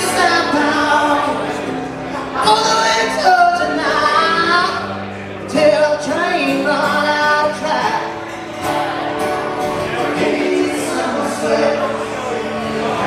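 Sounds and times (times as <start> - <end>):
acoustic guitars: 0.0 - 13.0
people singing: 0.0 - 13.0.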